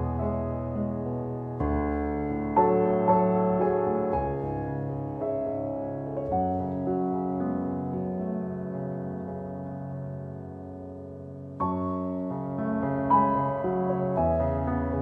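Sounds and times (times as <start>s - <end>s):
slow soft piano chords: 0.0s - 15.0s.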